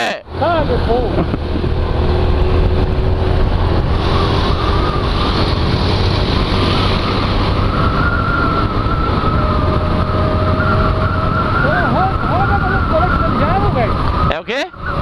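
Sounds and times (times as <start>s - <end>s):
wind noise on microphone: 1.2s - 15.0s.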